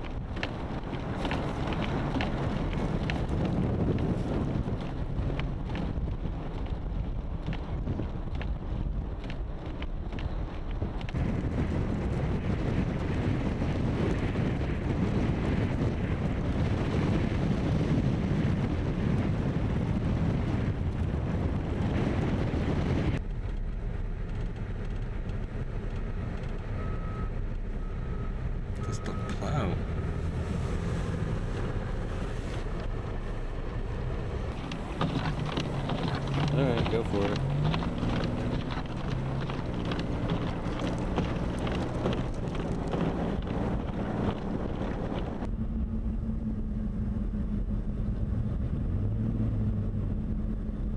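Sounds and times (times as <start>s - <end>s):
blizzard wind buffeting microphone: 0.0s - 50.9s
vehicle noise: 0.0s - 50.9s.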